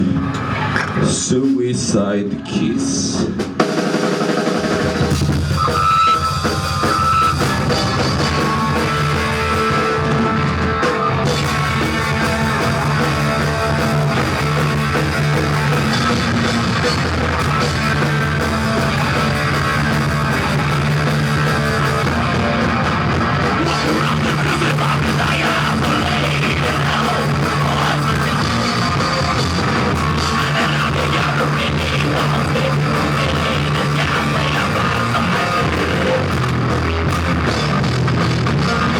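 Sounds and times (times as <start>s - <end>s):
rock band playing live: 3.0s - 38.9s.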